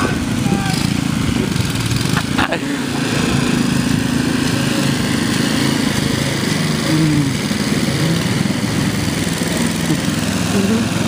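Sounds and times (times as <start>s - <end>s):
lawn tractor engine running: 0.0s - 11.0s.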